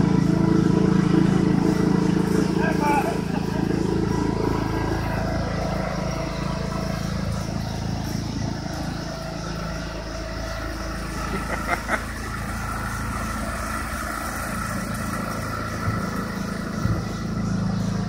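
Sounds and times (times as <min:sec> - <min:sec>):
riding lawn mower engine running: 0:00.0 - 0:18.0.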